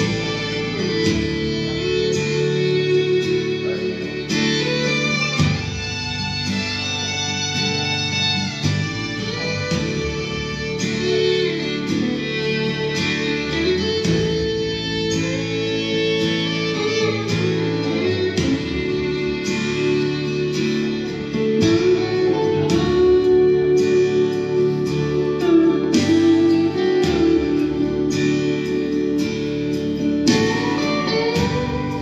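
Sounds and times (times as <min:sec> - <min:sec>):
guitar-led music: 0:00.0 - 0:32.0.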